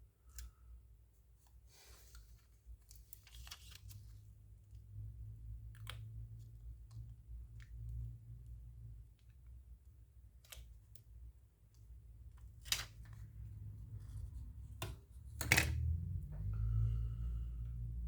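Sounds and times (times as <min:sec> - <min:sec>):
low steady hum: 0:02.5 - 0:18.0.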